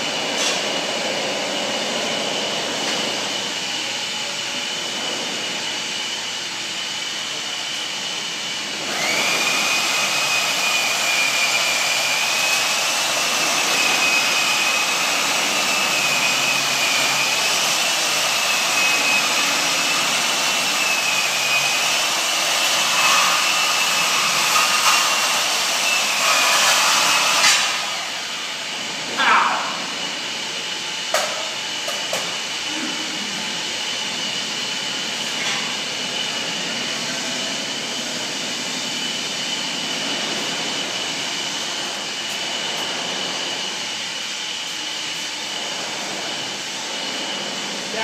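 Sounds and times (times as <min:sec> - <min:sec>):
bandsaw motor running: 0:00.0 - 0:48.0
high whine of saw blade cutting: 0:00.0 - 0:48.0.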